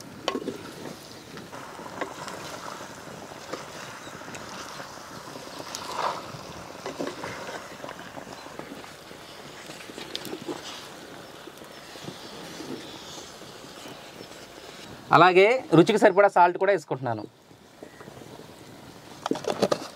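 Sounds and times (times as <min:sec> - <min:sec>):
steady cooking hiss: 0:00.0 - 0:19.2.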